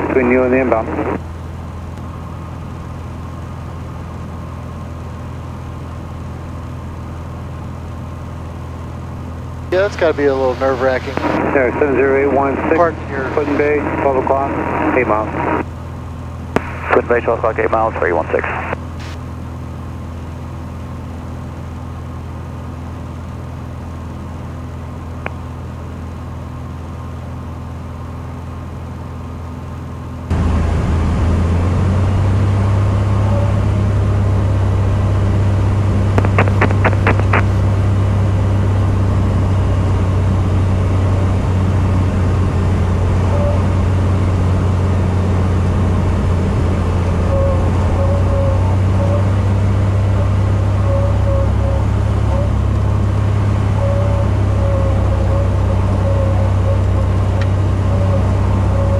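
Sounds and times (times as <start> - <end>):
propeller plane engine droning: 0.0 - 58.9.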